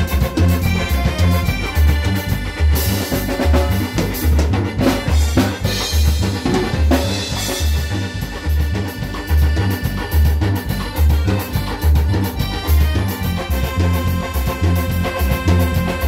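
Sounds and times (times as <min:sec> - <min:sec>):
drum kit: 0:00.0 - 0:16.0
low bass beat: 0:00.0 - 0:16.0.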